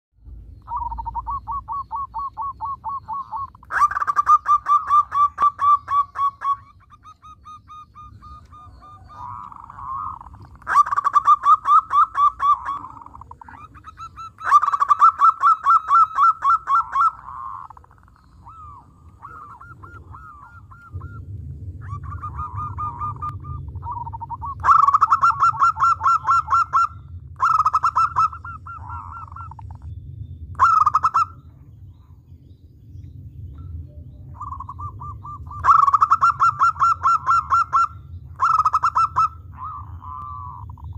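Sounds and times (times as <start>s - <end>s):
dove cooing: 0.6s - 29.9s, 30.6s - 32.1s, 34.1s - 40.9s.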